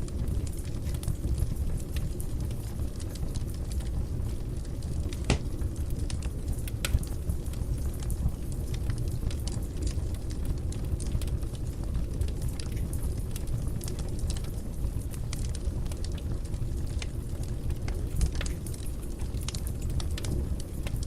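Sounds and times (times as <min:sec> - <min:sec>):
fire crackling and popping: 0:00.0 - 0:21.0
fire flames rushing: 0:00.0 - 0:21.0.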